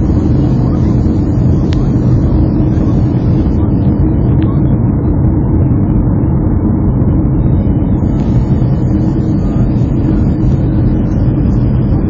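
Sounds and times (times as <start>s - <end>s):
jet engine noise in cabin: 0.0s - 12.0s.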